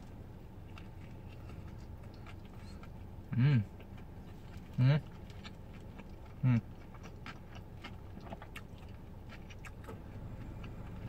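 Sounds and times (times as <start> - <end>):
wet chewing with mouth smacks: 0.0 - 11.0.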